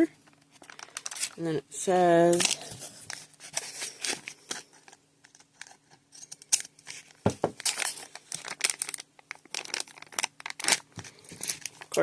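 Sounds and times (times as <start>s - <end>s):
packaging crinkling: 0.3s - 1.4s, 2.2s - 12.0s.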